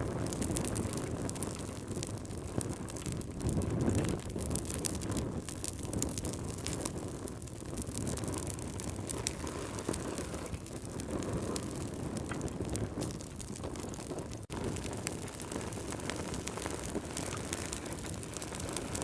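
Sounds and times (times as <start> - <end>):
campfire wood crackling and popping: 0.0 - 19.0
low fire rumble: 0.0 - 19.0.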